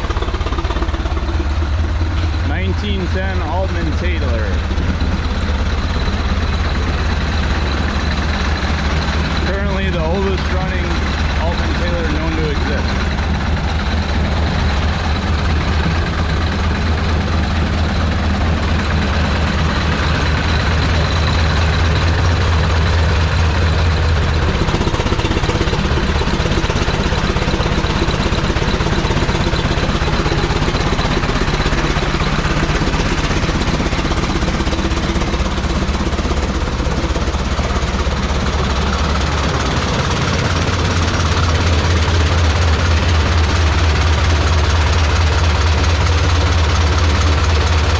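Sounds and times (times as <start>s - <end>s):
two-cylinder engine running: 0.0s - 47.9s.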